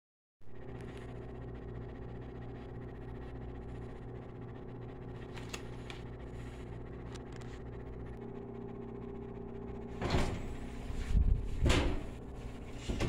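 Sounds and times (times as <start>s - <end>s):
low electrical hum: 0.5s - 13.0s.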